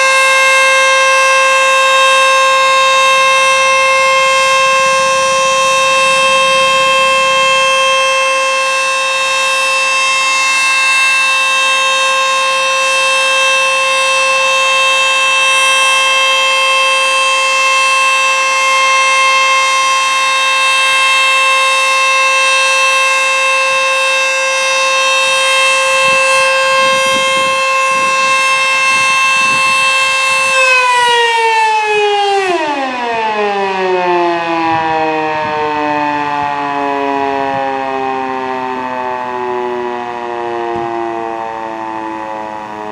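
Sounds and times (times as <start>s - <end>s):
warning siren wailing: 0.0s - 42.9s.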